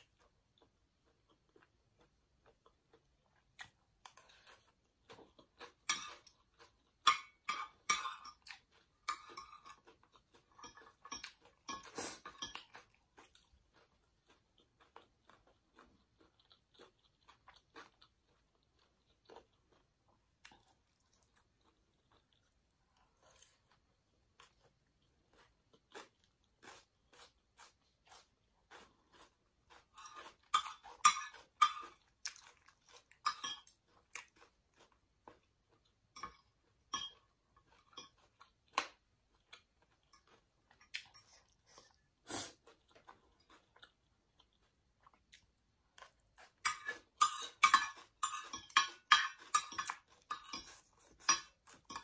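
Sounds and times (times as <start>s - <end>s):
chewing with mouth clicks: 0.0s - 52.0s.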